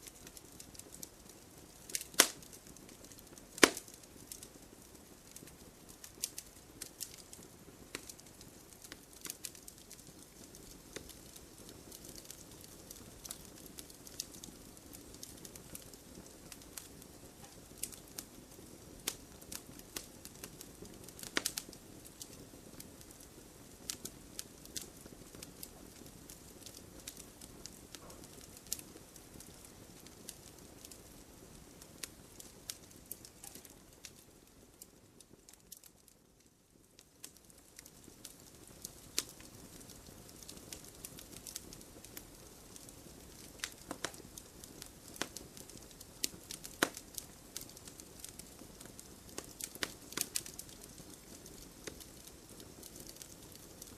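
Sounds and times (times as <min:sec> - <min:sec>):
flames hissing: 0:00.0 - 0:34.3, 0:38.2 - 0:53.9
wood fire crackling and popping: 0:00.0 - 0:53.9.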